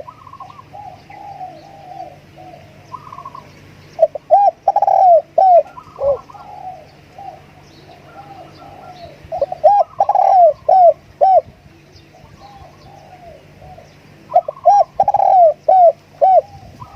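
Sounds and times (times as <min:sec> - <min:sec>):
doves cooing: 0:00.0 - 0:16.9.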